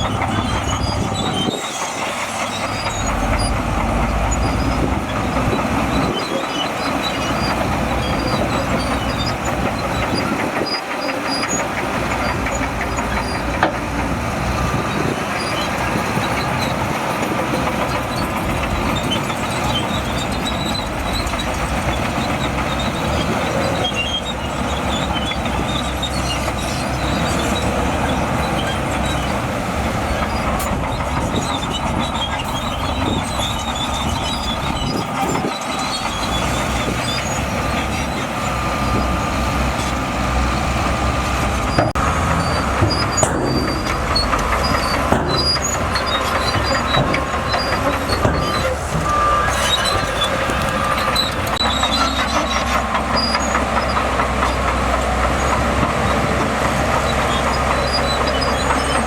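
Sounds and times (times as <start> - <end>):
diesel engine running: 0.0 - 59.0
steel tracks clattering: 0.0 - 59.0
track links squeaking: 0.0 - 59.0.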